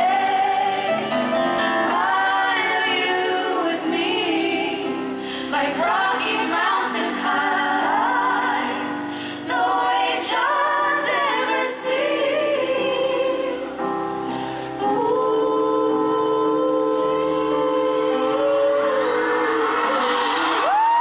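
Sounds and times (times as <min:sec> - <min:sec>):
keyboard: 0:00.0 - 0:21.0
women singing harmonies: 0:00.0 - 0:21.0.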